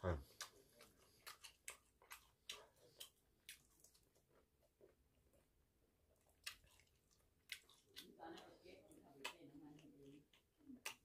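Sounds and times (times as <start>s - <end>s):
chewing crunchy food: 0.2s - 11.0s.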